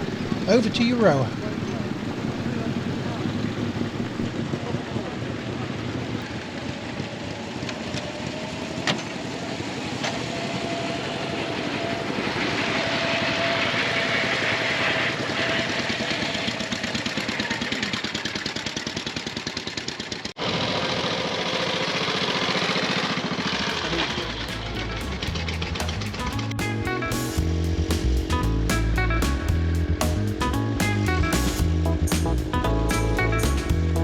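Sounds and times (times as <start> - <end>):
old vehicle engine running: 0.0 - 34.0.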